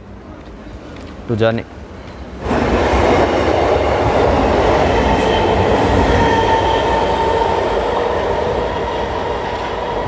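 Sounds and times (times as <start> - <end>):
train coaches rumbling: 0.0 - 10.0.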